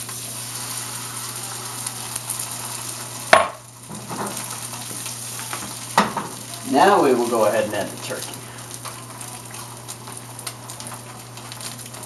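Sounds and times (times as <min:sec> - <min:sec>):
egg sizzling in a pan: 0:00.0 - 0:12.0.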